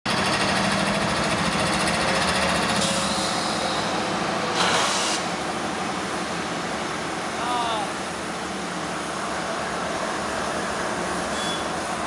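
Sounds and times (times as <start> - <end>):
diesel locomotives idling: 0.1 - 12.0.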